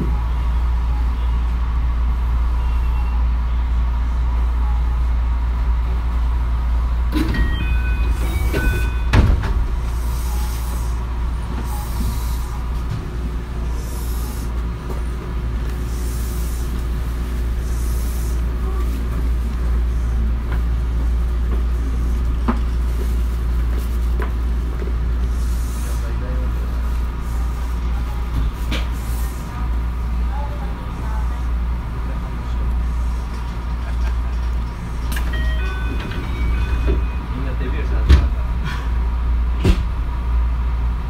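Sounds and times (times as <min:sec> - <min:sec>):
train running rumble: 0:00.0 - 0:41.0.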